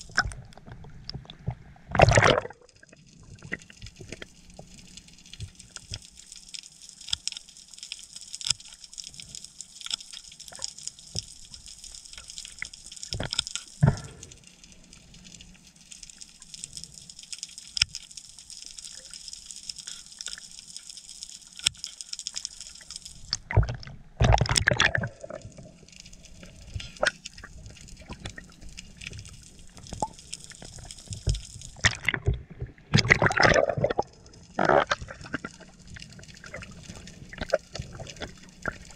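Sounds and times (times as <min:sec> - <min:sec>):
underwater crackle of clicks: 0:00.0 - 0:38.9.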